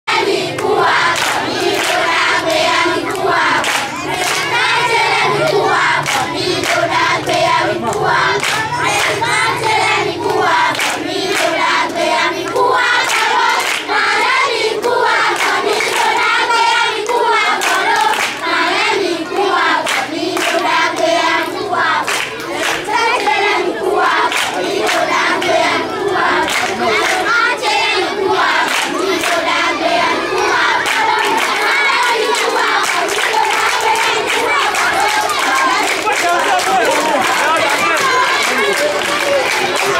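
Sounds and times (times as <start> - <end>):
children singing in chorus: 0.1 - 39.9
hands clapping: 0.5 - 9.2, 10.2 - 18.5, 19.3 - 21.1, 22.0 - 23.3, 24.2 - 25.6, 26.4 - 27.3, 28.6 - 29.4, 30.6 - 39.9.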